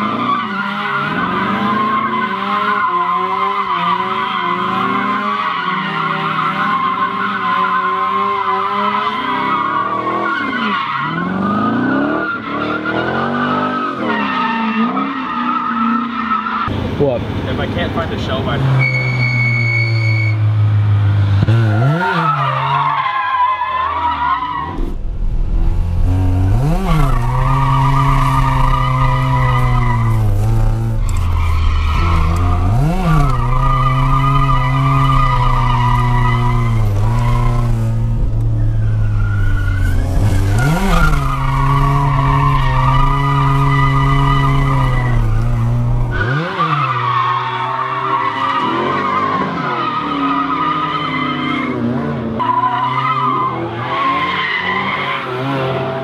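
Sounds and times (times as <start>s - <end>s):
rotary engine revving high: 0.0s - 16.4s, 18.4s - 23.0s, 23.9s - 56.0s
tires squealing: 0.0s - 17.0s, 17.6s - 20.4s, 21.2s - 25.0s, 26.1s - 56.0s.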